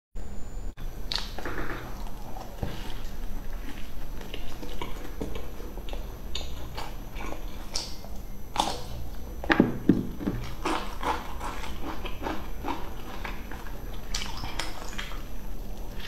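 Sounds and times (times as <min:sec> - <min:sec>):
chewing with wet lip smacks: 0:01.1 - 0:09.2, 0:10.4 - 0:16.0.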